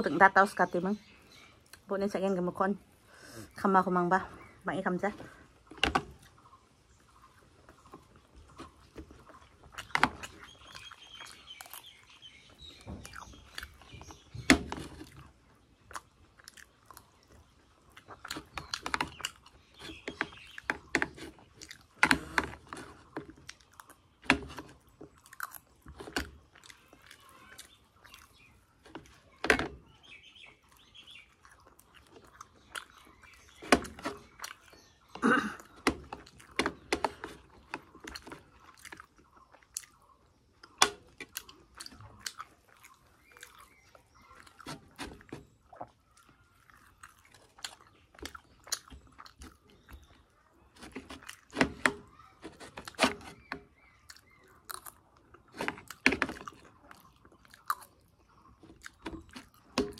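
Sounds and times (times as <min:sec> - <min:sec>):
person chewing crunchy food: 0:05.4 - 0:59.9.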